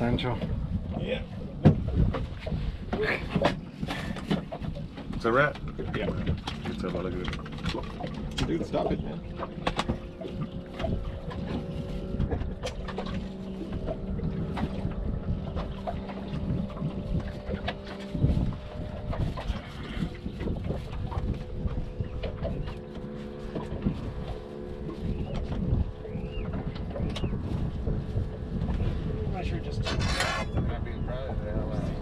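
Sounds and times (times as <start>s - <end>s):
boat humming: 0.0s - 32.0s
water lapping against hull: 0.0s - 32.0s
wind buffeting microphone: 0.0s - 32.0s.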